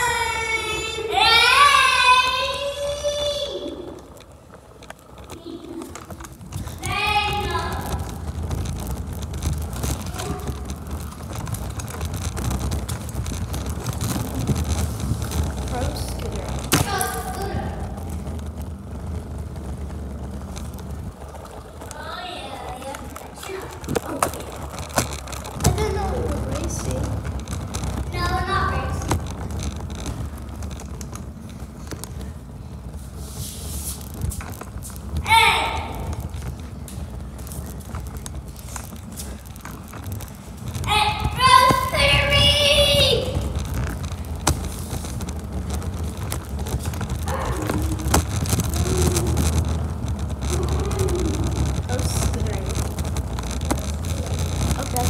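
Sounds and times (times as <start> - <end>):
scooter wheels rolling on concrete: 0.0 - 55.0
wind buffeting microphone: 0.0 - 55.0.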